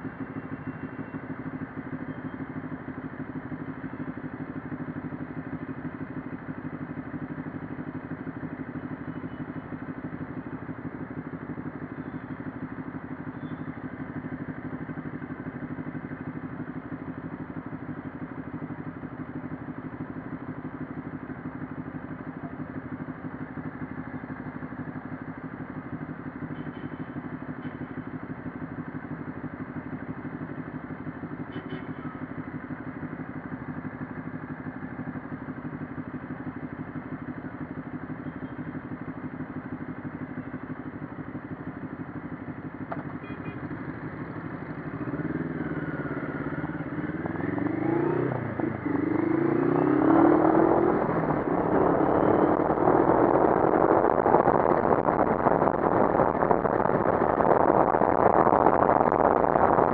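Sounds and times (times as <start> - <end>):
motorcycle engine idling: 0.0 - 48.9
motorcycle revving: 0.0 - 59.9.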